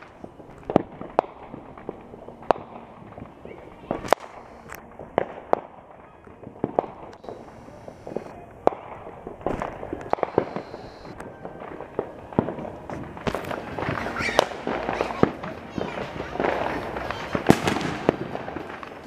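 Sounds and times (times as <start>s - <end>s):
fireworks and firecrackers popping: 0.0s - 19.0s.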